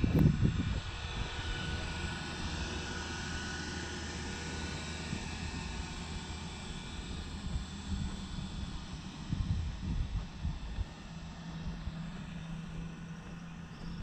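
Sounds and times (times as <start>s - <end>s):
distant aircraft rumble: 0.0s - 14.0s.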